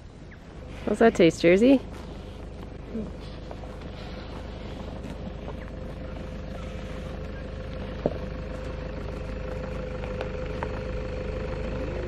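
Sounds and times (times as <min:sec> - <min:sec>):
engine idling with whine: 0:00.0 - 0:12.0.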